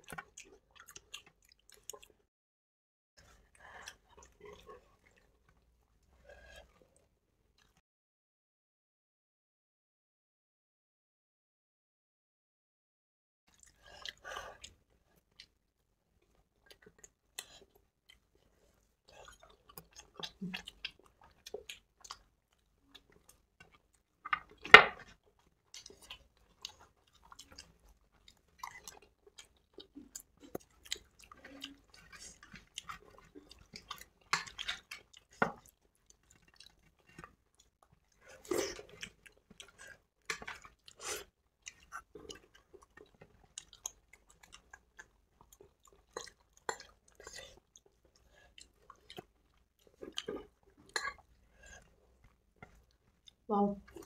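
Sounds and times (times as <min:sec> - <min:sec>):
people chewing food: 0:00.0 - 0:02.3, 0:03.2 - 0:07.8, 0:13.5 - 0:54.0.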